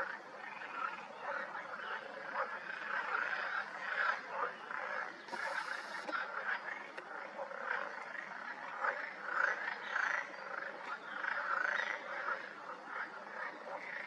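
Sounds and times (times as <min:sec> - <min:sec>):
frogs croaking: 0:00.0 - 0:14.0.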